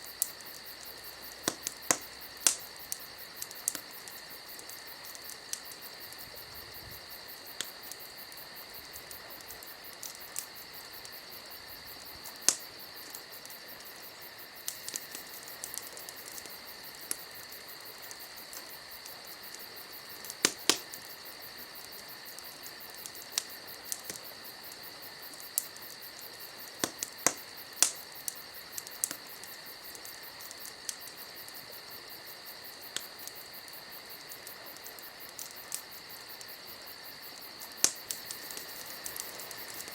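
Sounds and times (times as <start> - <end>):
steady high hiss: 0.0 - 39.9
wood fire crackling: 0.0 - 39.9.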